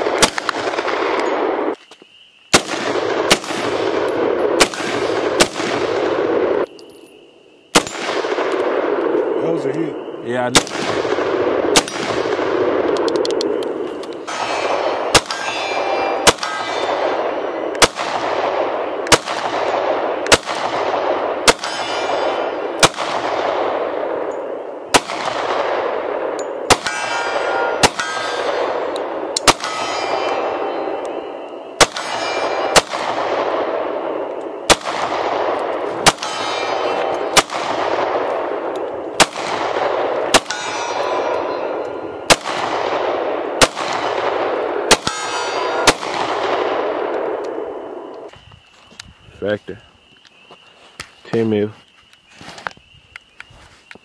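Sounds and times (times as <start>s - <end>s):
gunshots with ringing echo: 0.0s - 1.8s, 2.5s - 6.8s, 7.6s - 48.3s.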